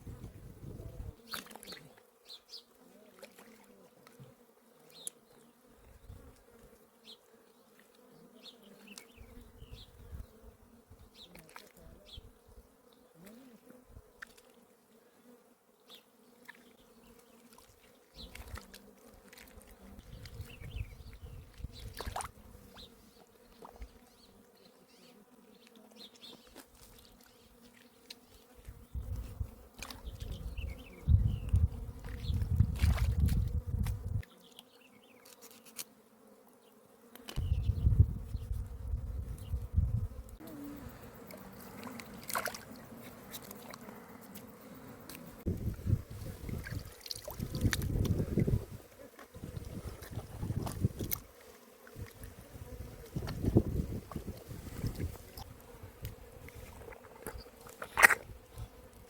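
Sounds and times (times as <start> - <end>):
insect buzzing: 0.0 - 59.0.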